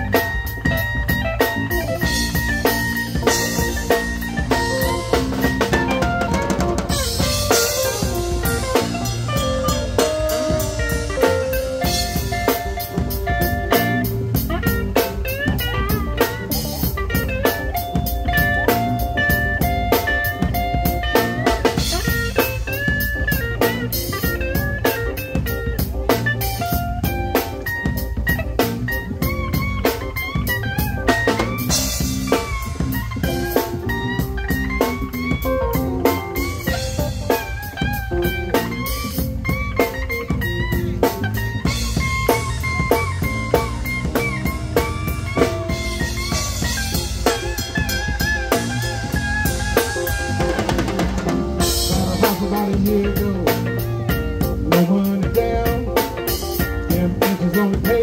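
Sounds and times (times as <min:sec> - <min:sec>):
blues band playing: 0:00.0 - 0:58.0
electric guitar lead: 0:00.0 - 0:58.0.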